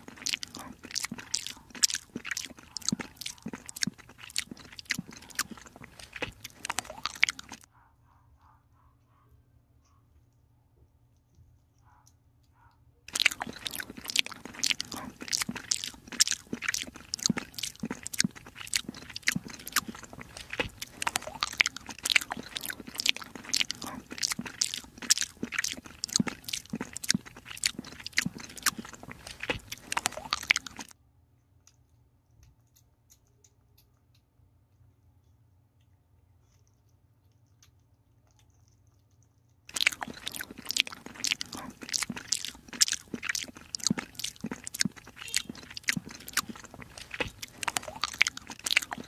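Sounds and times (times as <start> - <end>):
kitten chewing wet food: 0.0 - 7.7, 13.1 - 49.0.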